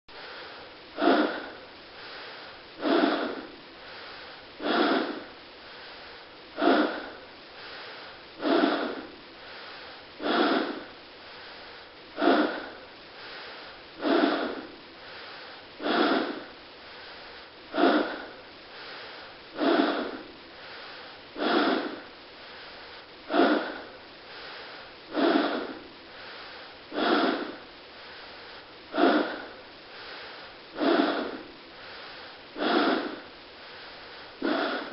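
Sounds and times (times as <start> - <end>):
person breathing hard: 0.1 - 34.9.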